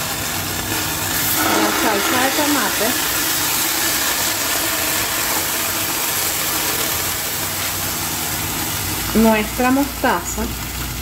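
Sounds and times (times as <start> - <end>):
liquid sizzling in hot saucepan: 0.0 - 11.0.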